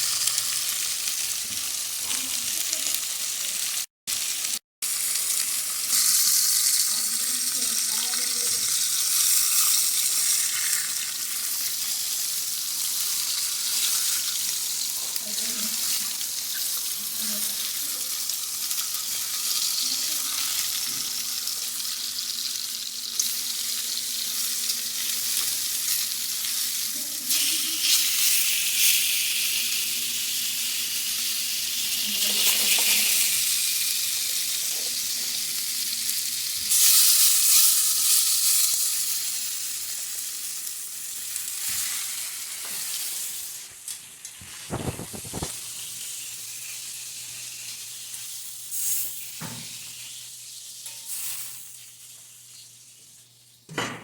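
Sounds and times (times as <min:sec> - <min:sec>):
steak sizzling in a frying pan: 0:00.0 - 0:53.6.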